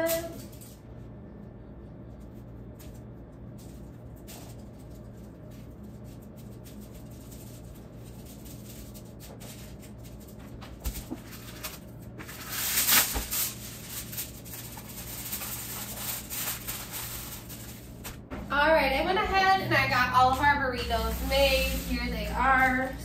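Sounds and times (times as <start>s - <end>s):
aluminium foil crinkling: 0.0s - 1.1s, 2.1s - 18.2s, 20.6s - 23.0s
steady low hum: 0.0s - 23.0s.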